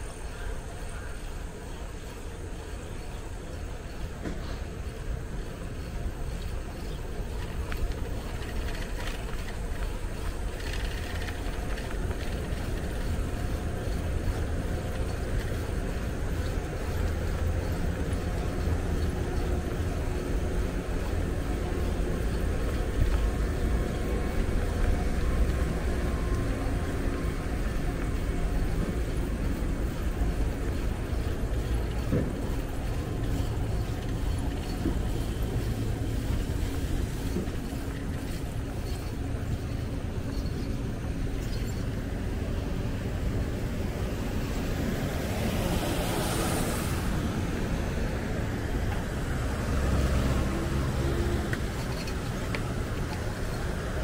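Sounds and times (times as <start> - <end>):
bicycle tyres hissing on road: 0.0 - 54.0.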